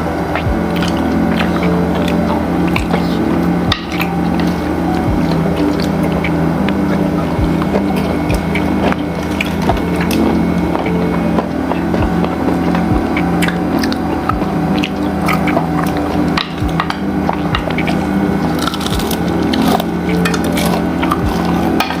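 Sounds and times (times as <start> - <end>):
crunchy chewing: 0.0 - 22.0
low drone of tones: 0.0 - 22.0.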